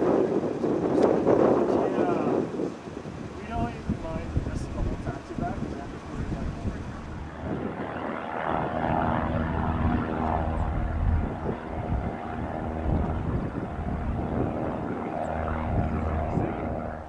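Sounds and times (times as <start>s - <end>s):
propeller airplane engines humming: 0.0s - 17.0s.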